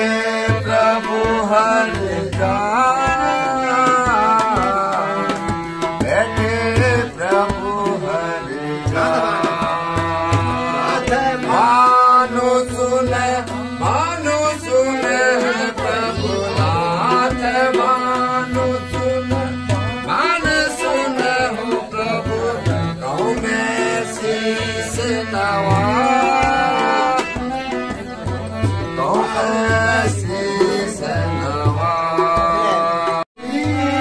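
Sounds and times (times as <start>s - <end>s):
man singing ornamented phrases: 0.0s - 34.0s
sustained harmonium: 0.0s - 34.0s
tabla beat: 0.0s - 34.0s.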